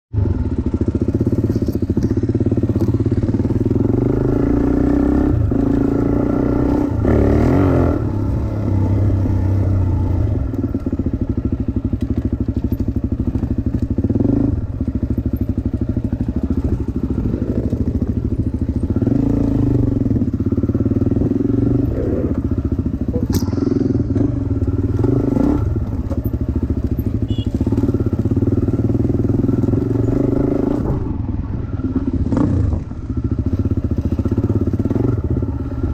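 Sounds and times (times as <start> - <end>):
dirt bike engine revving: 0.2 - 35.9.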